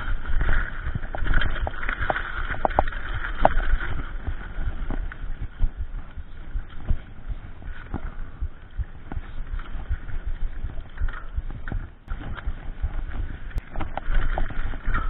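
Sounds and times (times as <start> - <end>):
bike rattling over bumps: 0.0 - 15.0
bike tyres rumbling on dirt: 0.0 - 15.0.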